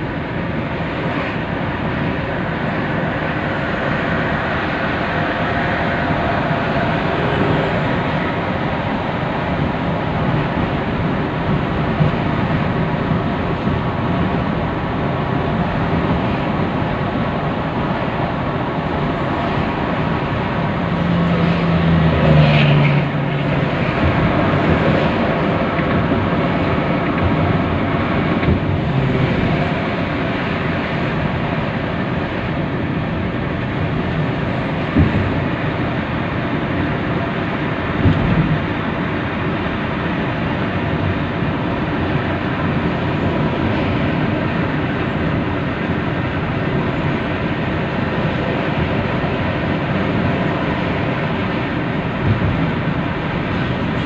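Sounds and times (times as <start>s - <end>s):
vehicle cabin road noise: 0.0s - 54.0s.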